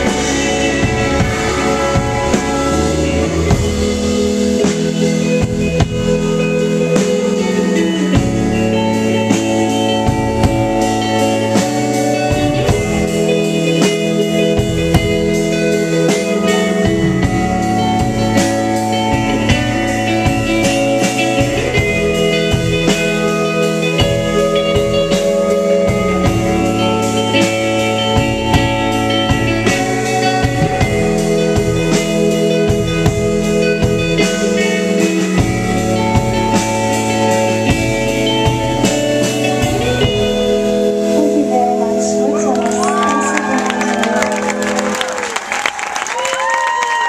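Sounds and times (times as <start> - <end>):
drum kit: 0.0 - 47.0
electric guitar: 0.0 - 47.0.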